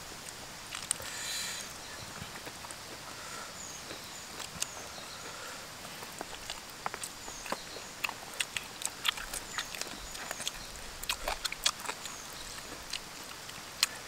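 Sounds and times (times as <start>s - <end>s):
people chewing with lip-smacking: 1.9s - 14.0s.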